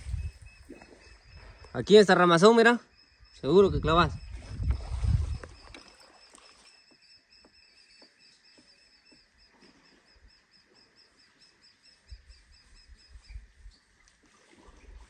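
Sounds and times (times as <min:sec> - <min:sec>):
bird chirping: 0:00.0 - 0:04.7, 0:05.3 - 0:13.9.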